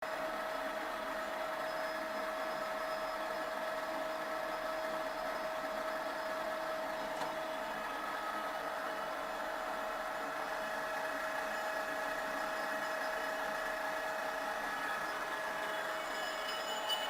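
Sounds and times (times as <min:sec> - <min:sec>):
gear train ringing high tone: 0:00.1 - 0:07.0, 0:07.6 - 0:17.0
lathe machine hum: 0:00.1 - 0:17.0.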